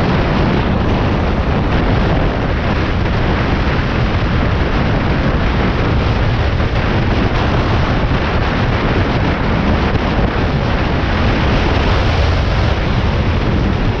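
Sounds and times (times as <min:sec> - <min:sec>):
motorcycle engine running steadily: 0:00.0 - 0:14.0
wind buffeting microphone: 0:00.0 - 0:14.0.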